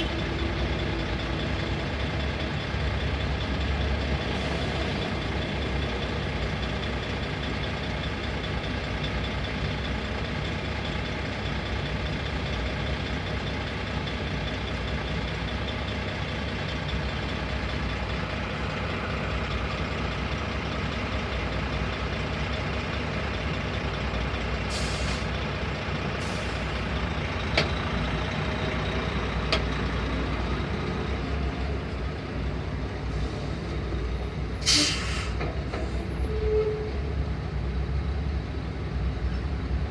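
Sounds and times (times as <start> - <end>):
truck engines idling: 0.0 - 39.9.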